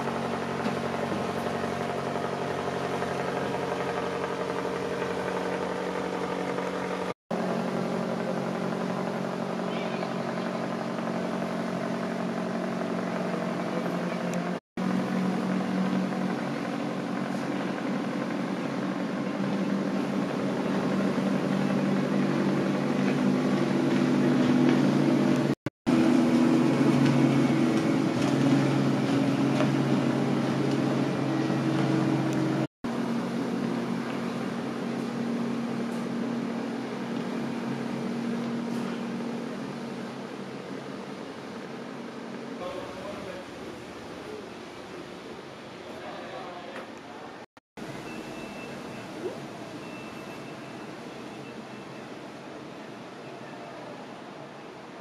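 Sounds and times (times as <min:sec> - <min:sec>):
boat engine drone: 0:00.0 - 0:55.0.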